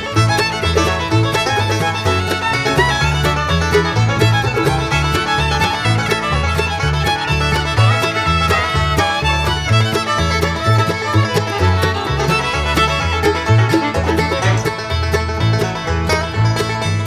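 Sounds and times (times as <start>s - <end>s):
banjo: 0.0s - 17.0s
bluegrass music: 0.0s - 17.0s
bouncing bass line: 0.0s - 17.0s
fiddle: 0.0s - 17.0s.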